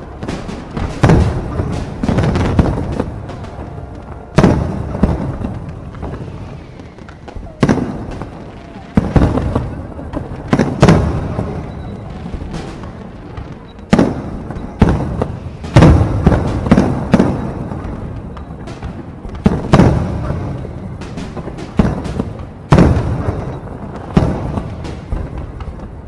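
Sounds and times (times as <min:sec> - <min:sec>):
fireworks booming: 0:00.0 - 0:26.0
rumbling echo: 0:00.0 - 0:26.0.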